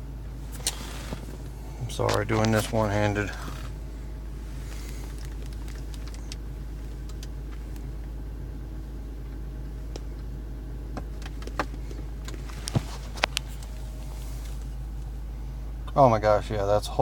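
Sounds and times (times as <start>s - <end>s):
low hum inside vehicle cab: 0.0s - 17.0s.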